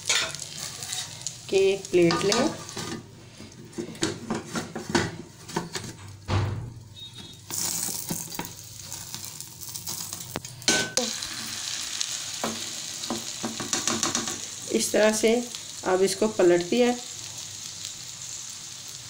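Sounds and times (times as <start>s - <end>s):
oil sizzling in a frying pan: 0.0s - 4.6s, 7.3s - 19.0s.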